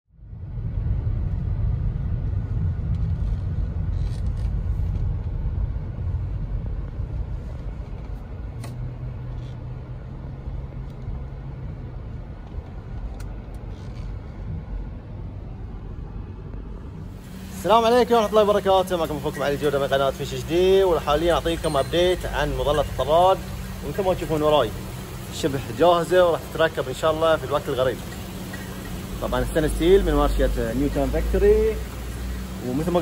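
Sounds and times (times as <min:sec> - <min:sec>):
steady low hum: 0:00.1 - 0:33.0
tyre and engine rumble: 0:00.2 - 0:33.0.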